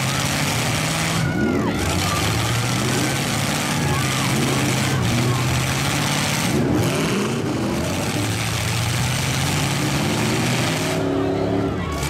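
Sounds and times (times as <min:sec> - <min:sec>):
truck engine revving: 0:00.0 - 0:12.0
truck engines running: 0:00.0 - 0:12.0.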